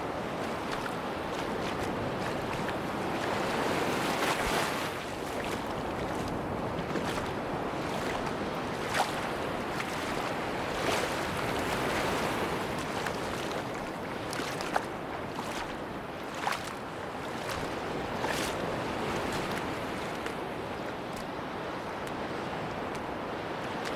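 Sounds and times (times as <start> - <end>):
surf washing on beach: 0.0 - 23.9.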